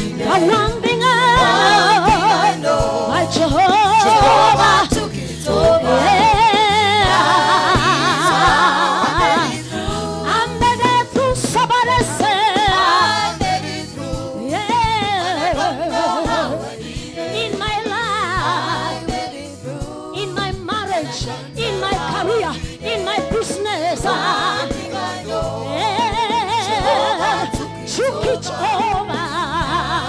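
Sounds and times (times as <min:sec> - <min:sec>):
instrumental accompaniment: 0:00.0 - 0:30.0
voices singing gospel runs: 0:00.0 - 0:30.0.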